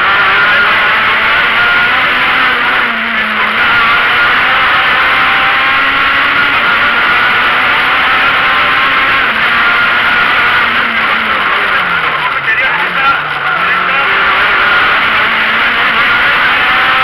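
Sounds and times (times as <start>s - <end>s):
car engine running hard: 0.0s - 17.0s
road and wind noise: 0.0s - 17.0s.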